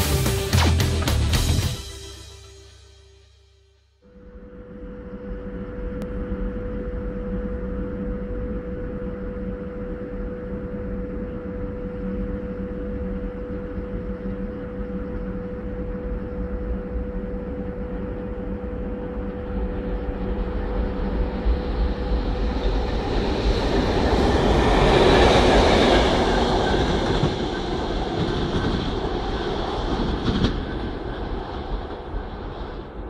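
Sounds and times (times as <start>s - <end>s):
electric locomotive humming: 4.0s - 33.0s.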